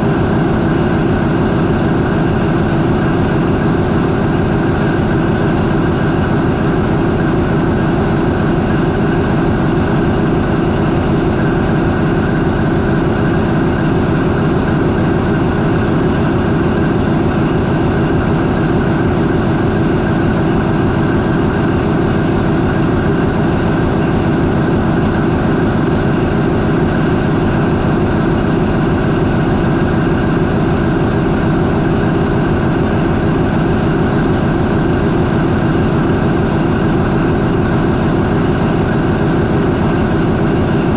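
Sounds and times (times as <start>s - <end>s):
marine diesel engine idling: 0.0s - 40.9s.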